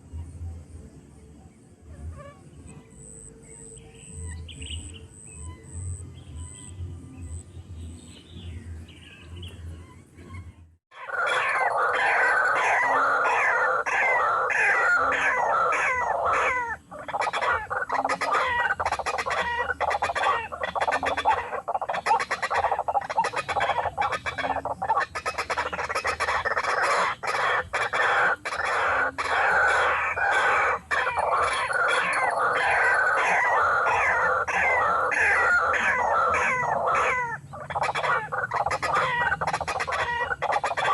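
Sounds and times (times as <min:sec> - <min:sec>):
faint birds: 0:00.0 - 0:40.9
faint insects: 0:00.0 - 0:40.9
harsh croaking bird chorus: 0:02.9 - 0:40.9.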